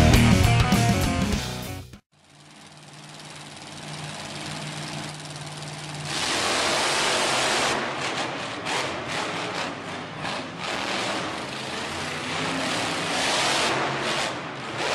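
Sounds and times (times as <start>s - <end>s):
monster truck engines revving: 2.3s - 14.9s.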